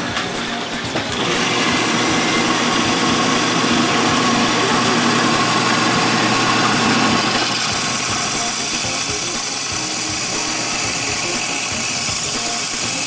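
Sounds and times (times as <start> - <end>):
band saw cutting coral: 0.0 - 13.0.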